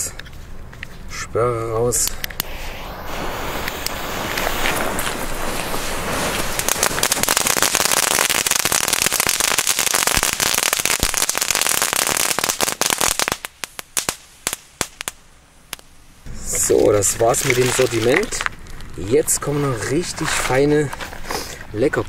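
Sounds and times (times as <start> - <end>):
fireworks crackling and popping: 1.8 - 22.0.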